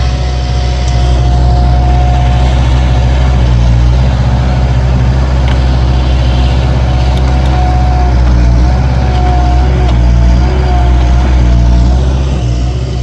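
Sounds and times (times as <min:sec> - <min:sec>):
diesel engines droning: 0:00.0 - 0:13.0
high wavering whine: 0:00.0 - 0:13.0.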